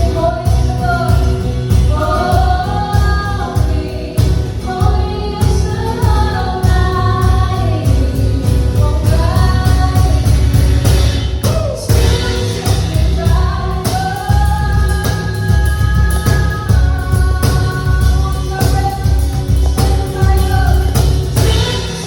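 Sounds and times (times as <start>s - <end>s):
worship song with full band: 0.0s - 22.0s.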